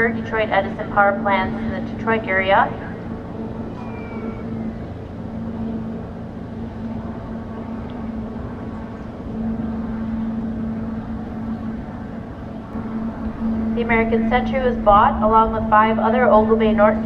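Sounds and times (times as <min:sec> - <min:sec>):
noisy rumble: 0:00.0 - 0:17.0
ship diesel engines humming: 0:00.0 - 0:17.0.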